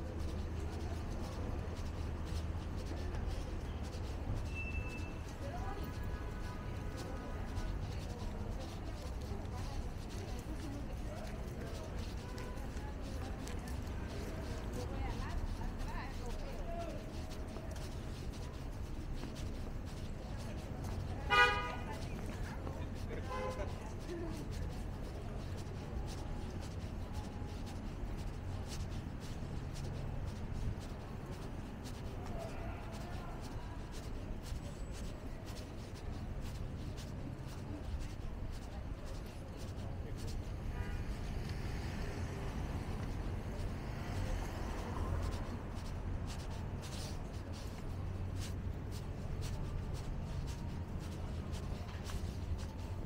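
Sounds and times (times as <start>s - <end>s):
low rumble of traffic: 0.0s - 53.0s
scuffs and clicks near microphone: 0.0s - 53.0s
shuffling and rubbing noises: 0.0s - 53.0s.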